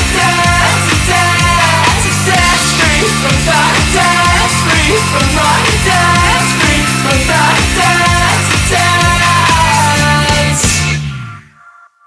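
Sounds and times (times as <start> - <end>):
driving drum beat: 0.0 - 11.0
band playing dance rock: 0.0 - 11.1.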